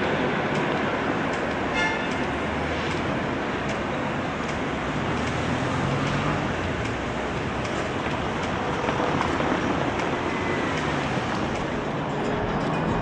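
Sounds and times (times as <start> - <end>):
traffic noise: 0.0 - 13.0
tram running along rails: 0.0 - 13.0.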